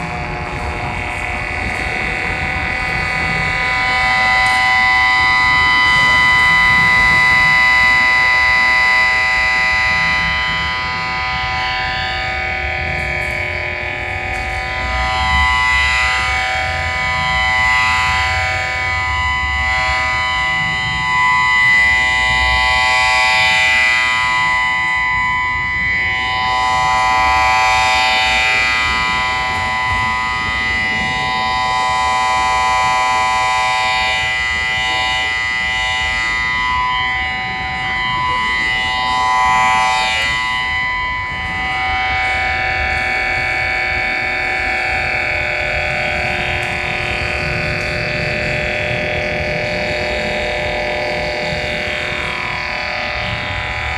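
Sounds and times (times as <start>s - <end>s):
electronic whining and buzzing: 0.0s - 53.9s
wavering siren-like sweeps: 0.0s - 53.9s.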